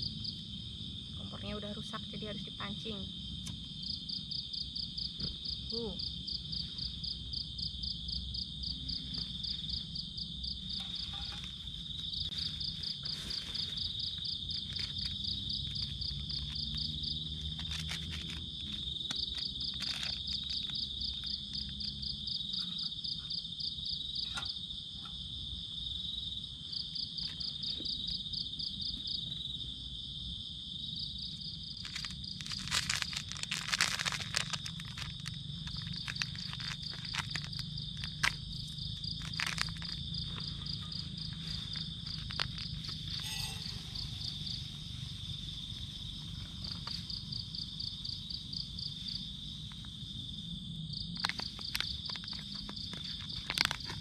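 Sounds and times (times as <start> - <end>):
insect pulsed trill: 0.0 - 54.0
insects droning: 0.0 - 54.0.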